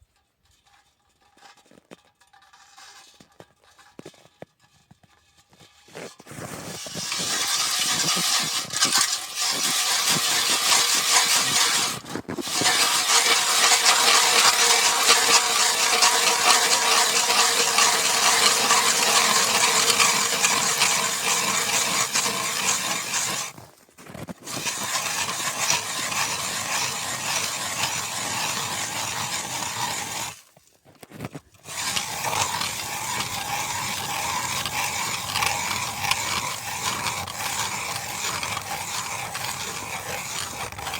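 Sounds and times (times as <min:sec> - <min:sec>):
ice auger grinding through ice: 0:01.2 - 0:40.9.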